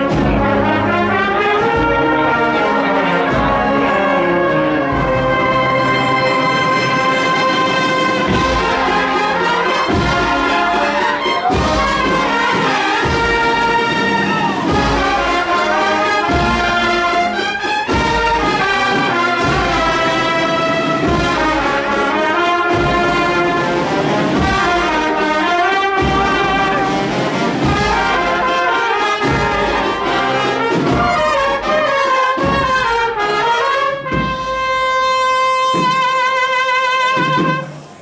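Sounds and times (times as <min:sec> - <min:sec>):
brass band procession march: 0:00.0 - 0:38.0
steady drum beats: 0:00.0 - 0:38.0.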